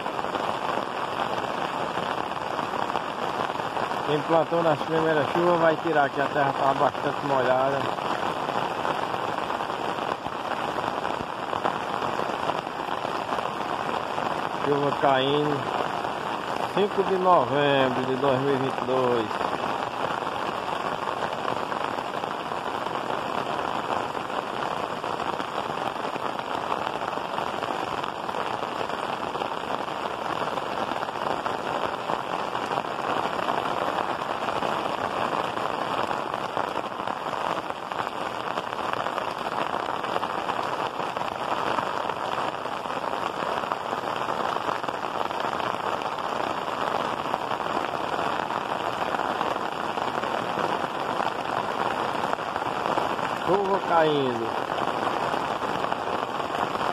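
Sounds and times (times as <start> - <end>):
heavy rain on tiled roofs: 0.0 - 56.9.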